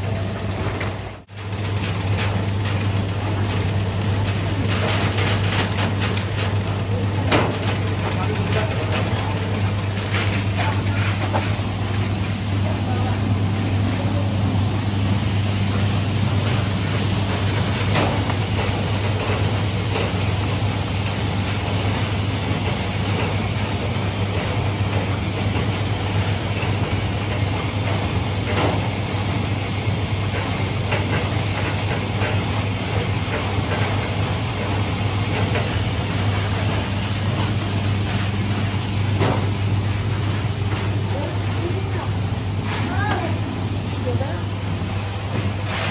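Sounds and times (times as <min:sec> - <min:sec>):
sorting machine motors humming: 0:00.0 - 0:45.9.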